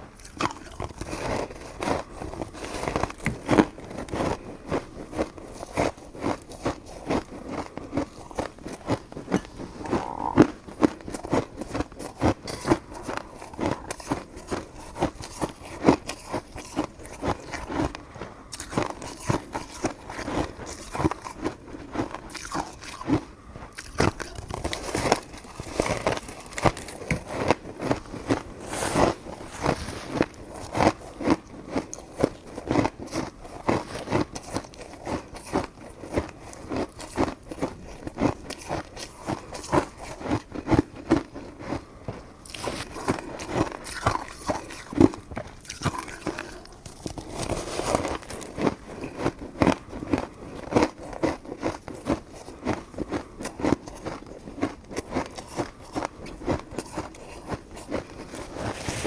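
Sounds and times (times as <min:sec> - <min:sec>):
chewing sticky rice cake: 0:00.0 - 0:59.0.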